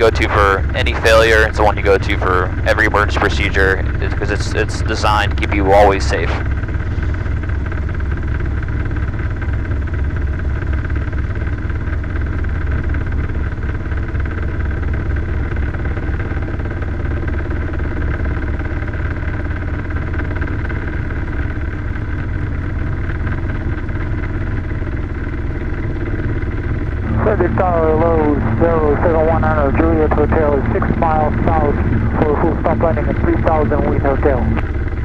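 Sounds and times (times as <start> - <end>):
low rotor throb: 0.0 - 10.8, 11.4 - 35.0
helicopter engine and rotor noise: 0.0 - 35.0.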